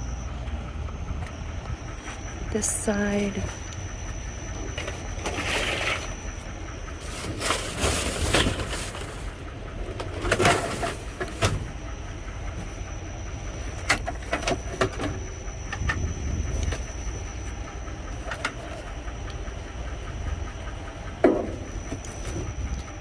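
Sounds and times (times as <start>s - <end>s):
steady low rumble: 0.0s - 23.0s
items rustling in a dumpster: 3.3s - 23.0s.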